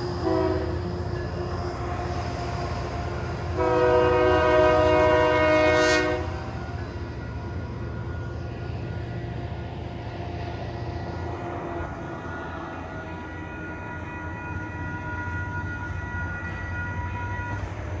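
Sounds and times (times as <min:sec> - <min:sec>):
high ringing tones: 0:00.0 - 0:03.6, 0:06.2 - 0:18.0
diesel locomotive rumbling: 0:00.0 - 0:18.0.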